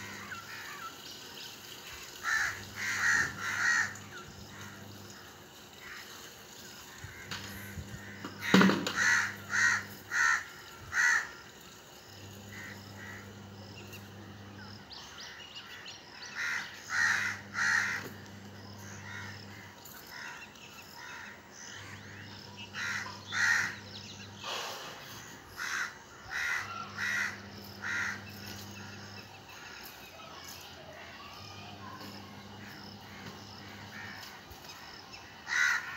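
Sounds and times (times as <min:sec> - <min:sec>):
crows cawing: 0:00.0 - 0:01.1, 0:01.8 - 0:13.7, 0:15.2 - 0:30.4, 0:31.0 - 0:35.9.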